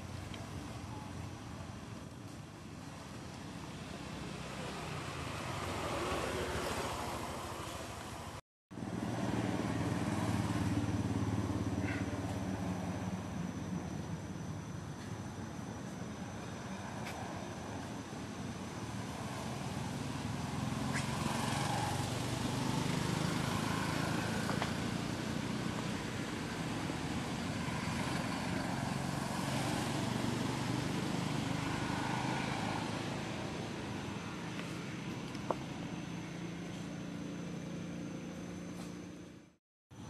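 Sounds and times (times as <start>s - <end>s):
vehicle engine humming: 0.0s - 40.0s.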